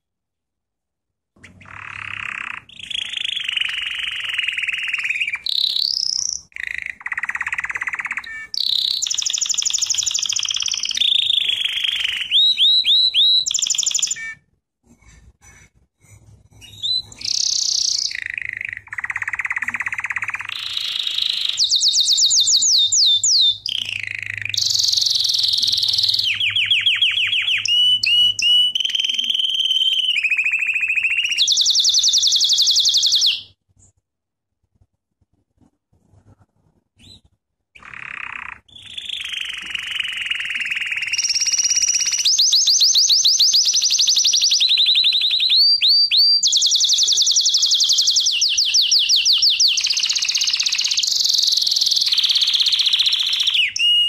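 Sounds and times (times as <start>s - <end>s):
canary singing trills: 1.4s - 33.6s, 37.0s - 54.0s.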